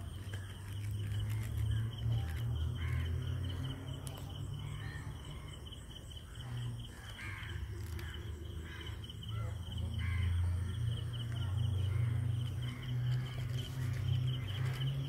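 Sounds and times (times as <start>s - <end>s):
high insect trill: 0.0s - 15.0s.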